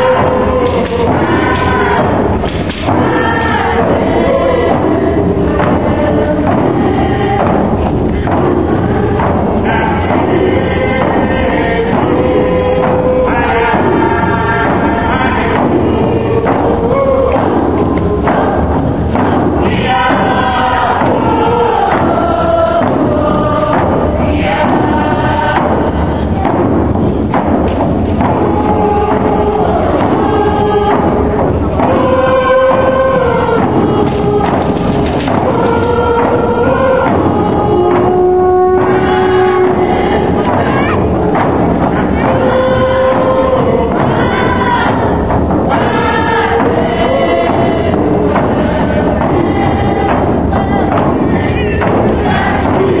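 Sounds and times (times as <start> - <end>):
frame drums beating: 0.0 - 53.0
group singing in unison: 0.0 - 53.0.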